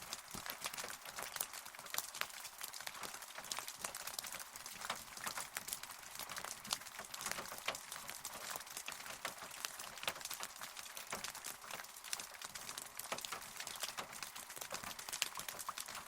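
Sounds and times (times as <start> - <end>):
raindrops ticking close by: 0.0 - 16.0
steady rain hiss: 0.0 - 16.0.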